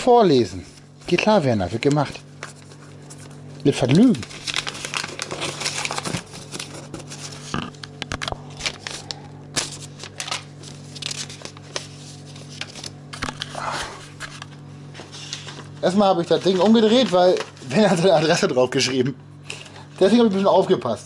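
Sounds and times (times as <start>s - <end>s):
steady low hum: 0.0s - 21.0s
paper rustling and crinkling: 0.6s - 21.0s.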